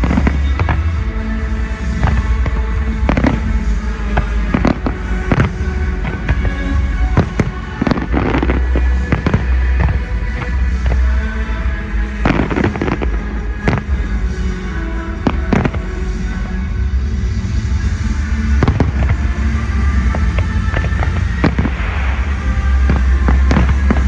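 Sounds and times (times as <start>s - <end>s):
fireworks banging and crackling: 0.0s - 24.0s
music with heavy bass: 0.0s - 24.0s.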